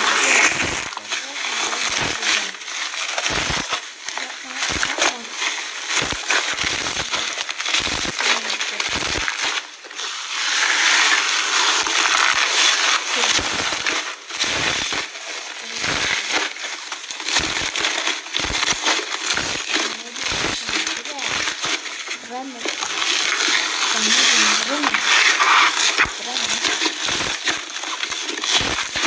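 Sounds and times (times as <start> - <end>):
slime crackling and popping: 0.0 - 29.0.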